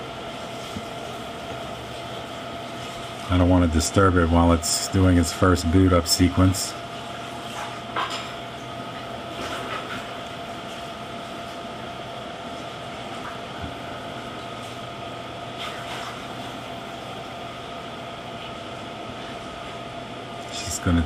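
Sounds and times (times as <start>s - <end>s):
faint continuous whine: 0.0s - 21.0s
room hum and hiss: 0.0s - 21.0s.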